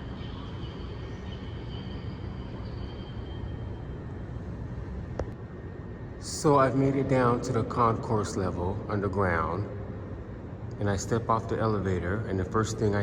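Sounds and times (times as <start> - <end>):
elevator low rumble: 0.0 - 13.0
faint high whine: 0.0 - 13.0.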